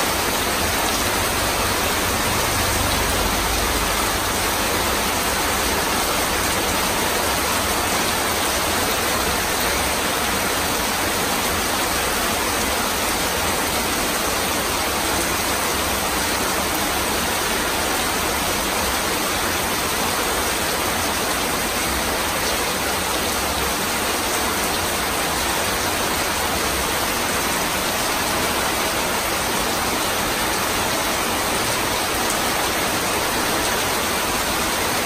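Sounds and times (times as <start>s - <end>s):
heavy rain on metal roofs: 0.0s - 35.0s
water pouring off eaves: 0.0s - 35.0s.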